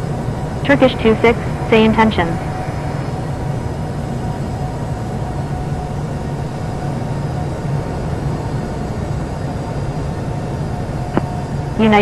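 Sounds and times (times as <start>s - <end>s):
steady engine rumble: 0.0s - 12.0s.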